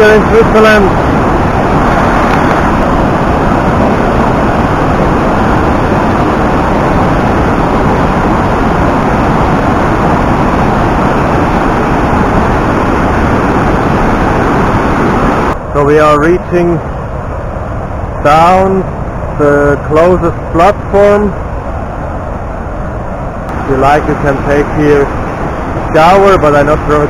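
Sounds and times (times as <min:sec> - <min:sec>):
waterfall rushing with deep rumble: 0:00.0 - 0:27.0.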